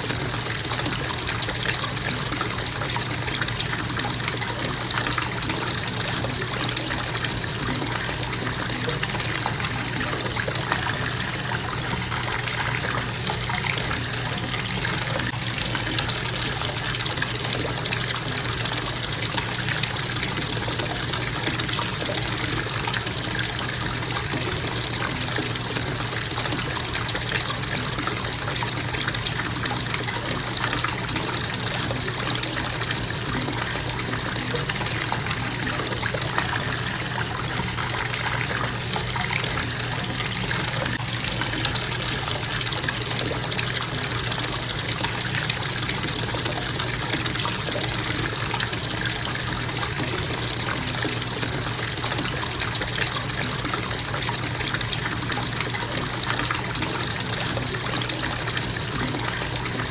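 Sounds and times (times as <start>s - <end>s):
bathtub faucet running: 0.0s - 59.9s.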